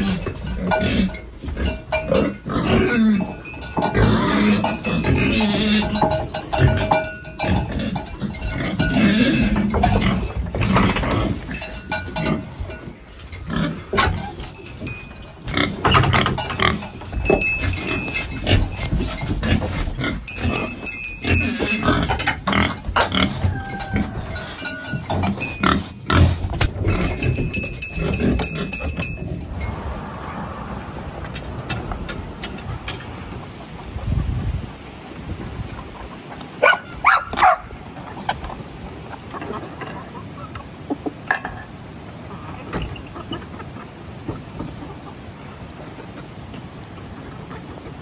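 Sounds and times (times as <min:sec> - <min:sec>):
farm animals calling: 0:00.0 - 0:41.2.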